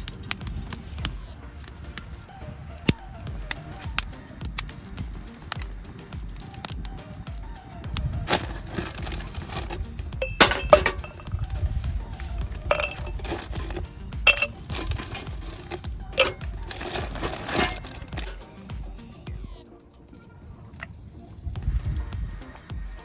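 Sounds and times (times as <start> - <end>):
hard objects clinking together: 0.0 - 21.0
background music: 0.0 - 23.0.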